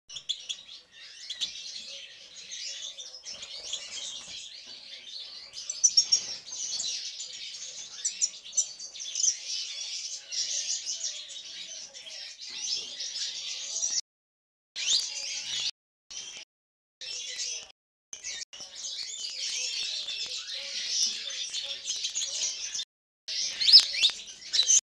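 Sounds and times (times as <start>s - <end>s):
bird twittering song: 0.1s - 14.0s, 14.8s - 16.4s, 17.0s - 24.8s.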